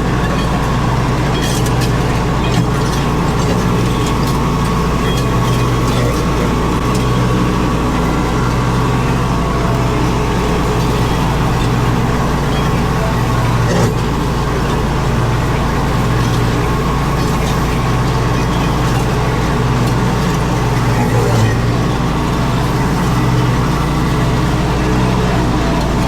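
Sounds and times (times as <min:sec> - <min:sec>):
mower deck noise: 0:00.0 - 0:26.0
riding mower engine running: 0:00.0 - 0:26.0.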